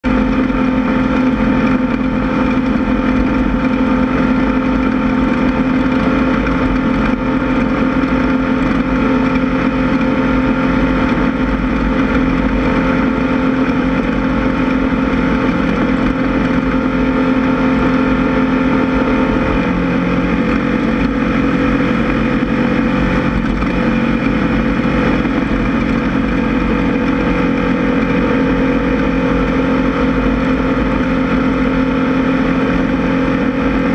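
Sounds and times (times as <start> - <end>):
buggy engine running hard: 0.0 - 33.9.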